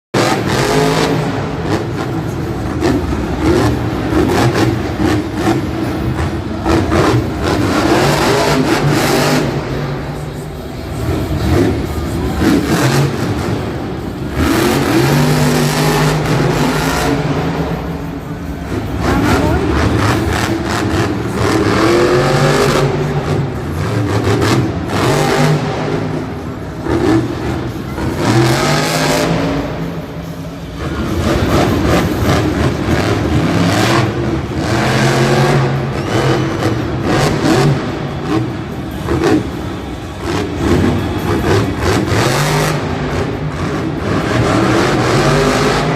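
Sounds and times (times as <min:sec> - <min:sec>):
truck engine revving: 0:00.1 - 0:45.9.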